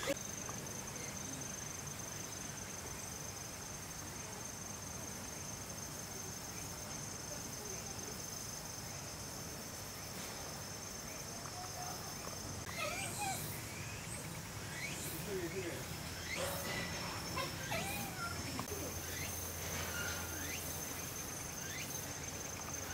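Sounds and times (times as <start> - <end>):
faint background noise: 0.0 - 22.9
insect high-pitched trill: 0.0 - 22.9.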